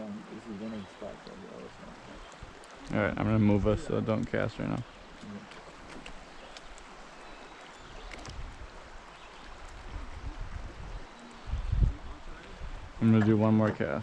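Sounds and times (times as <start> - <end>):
water gurgling around boat: 0.0 - 14.0.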